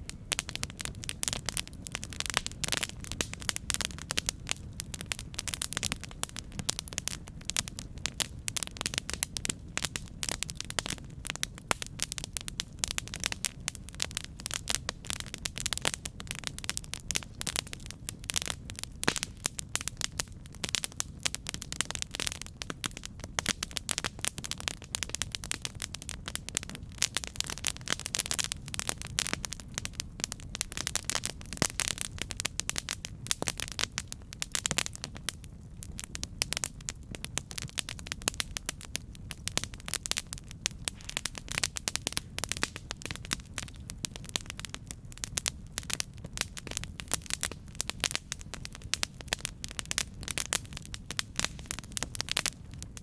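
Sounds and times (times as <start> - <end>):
campfire crackling and popping: 0.0 - 53.0
low steady rush of fire: 0.0 - 53.0.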